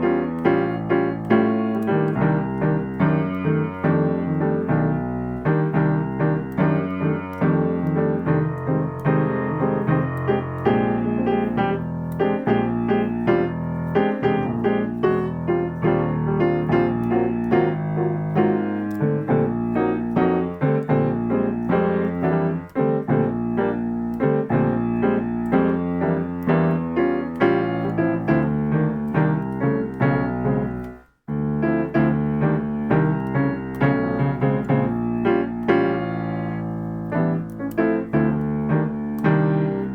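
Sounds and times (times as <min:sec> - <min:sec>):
piano chords: 0:00.0 - 0:39.9.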